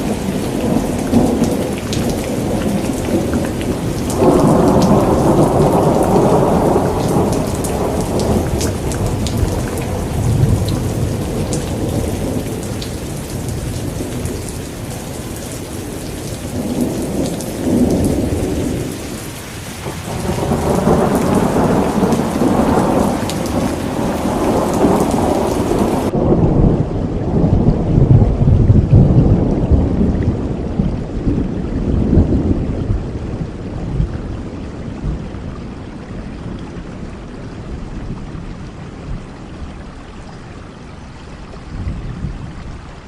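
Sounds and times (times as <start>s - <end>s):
rolling thunder: 0.0s - 35.6s
heavy rain: 0.0s - 43.0s.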